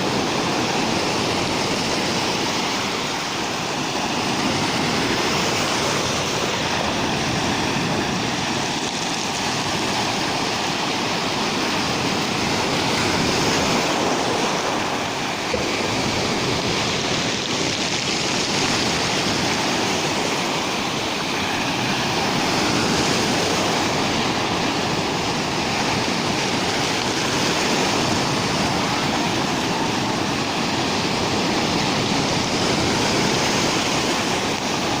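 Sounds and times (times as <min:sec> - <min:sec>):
waves breaking on shore: 0:00.0 - 0:35.0.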